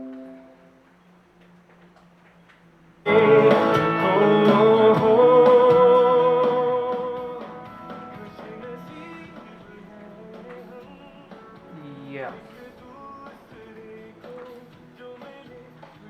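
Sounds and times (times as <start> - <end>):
song with singing and guitar: 3.1 - 16.0.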